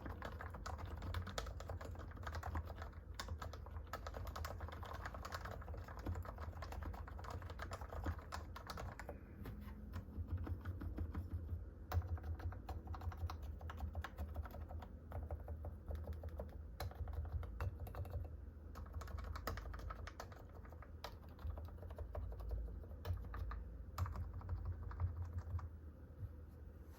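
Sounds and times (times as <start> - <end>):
soft keyboard typing: 0.0 - 25.8.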